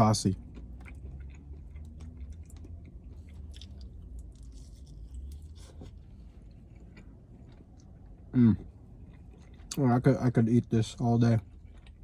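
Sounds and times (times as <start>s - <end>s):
person chewing crunchy food: 0.3s - 9.8s, 11.4s - 12.0s.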